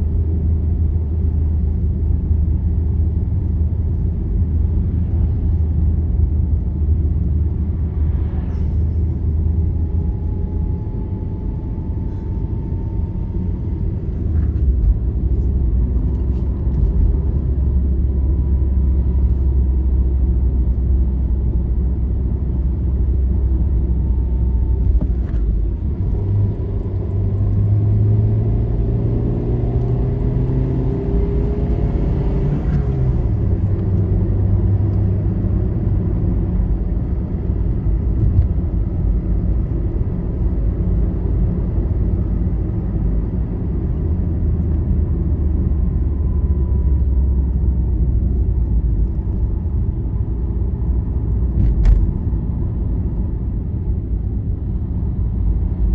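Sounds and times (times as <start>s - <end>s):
road and engine rumble: 0.0s - 55.9s.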